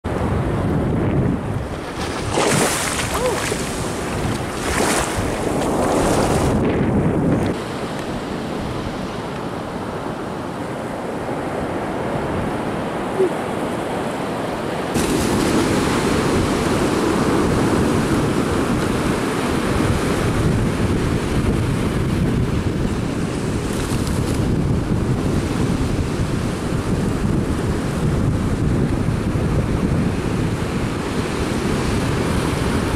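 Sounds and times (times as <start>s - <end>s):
wind buffeting microphone: 0.0s - 14.0s, 14.9s - 32.9s
surf washing onto beach: 1.4s - 32.9s.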